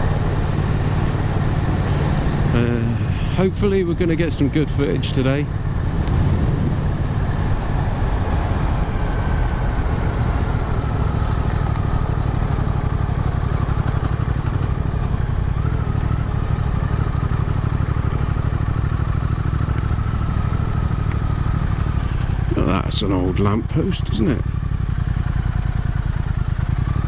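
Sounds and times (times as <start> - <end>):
motorcycle engine rumble: 0.0 - 27.0
wind and road noise: 0.0 - 27.0.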